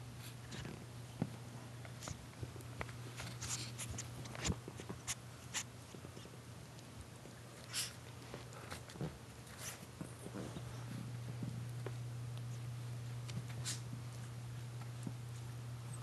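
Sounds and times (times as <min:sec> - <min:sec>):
steady low hum: 0:00.0 - 0:16.0
puppies scuffling on carpet: 0:00.1 - 0:16.0.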